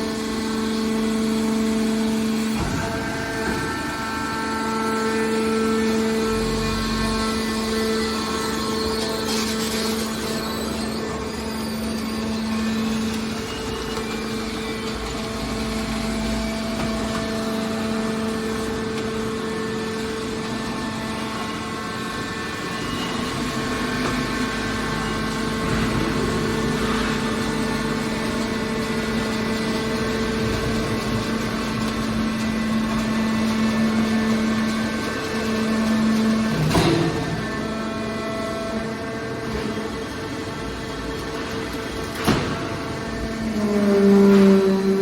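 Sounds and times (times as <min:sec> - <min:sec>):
hydraulic baler humming: 0:00.0 - 0:45.0.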